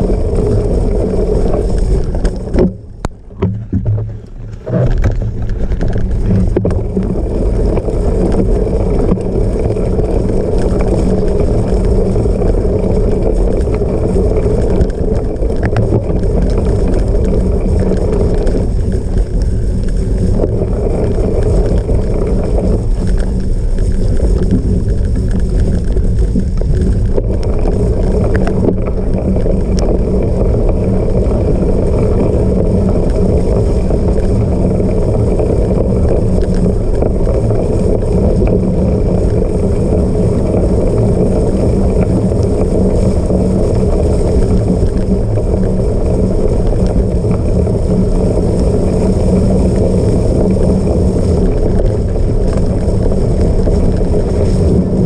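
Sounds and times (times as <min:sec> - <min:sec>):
bike rolling over rough ground: 0:00.0 - 0:55.0
wind rumble on microphone: 0:00.0 - 0:55.0.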